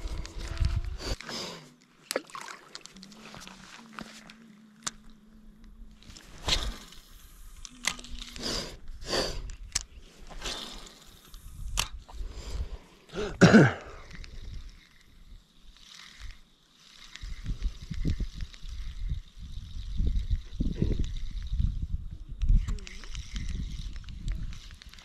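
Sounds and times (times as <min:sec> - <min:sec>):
fishing reel whirring: 0:02.6 - 0:13.3, 0:13.9 - 0:25.0.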